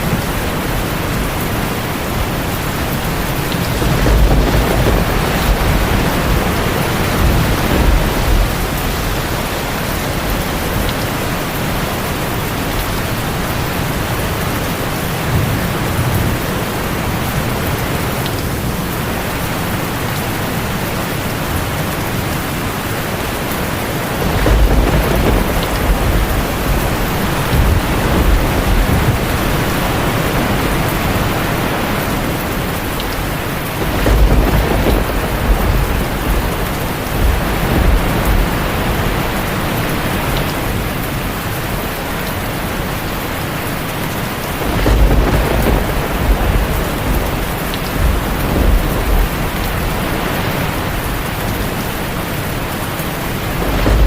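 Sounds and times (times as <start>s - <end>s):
heavy rain on a tin roof: 0.0s - 54.0s
rolling thunder: 0.0s - 54.0s.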